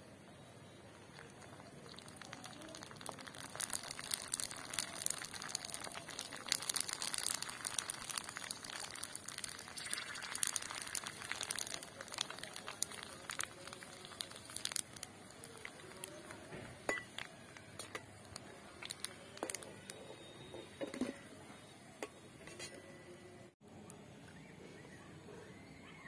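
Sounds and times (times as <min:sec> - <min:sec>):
dough frying in hot oil: 0:00.6 - 0:21.8.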